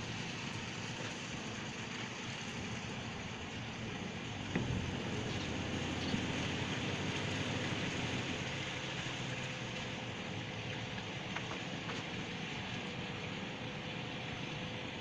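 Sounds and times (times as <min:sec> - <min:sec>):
boat engine droning: 0:00.0 - 0:15.0
water noise: 0:00.0 - 0:15.0.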